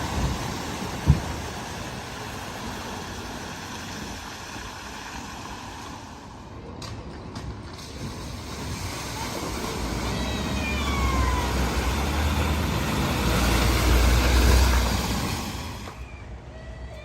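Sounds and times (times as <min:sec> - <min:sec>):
water washing: 0:00.0 - 0:16.0
vehicle engine rumble: 0:00.0 - 0:17.0.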